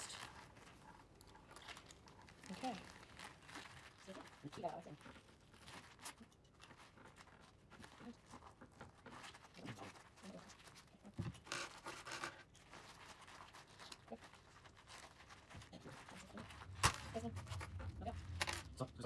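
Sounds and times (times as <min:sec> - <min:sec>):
gloved hands rustling: 0:00.0 - 0:18.8.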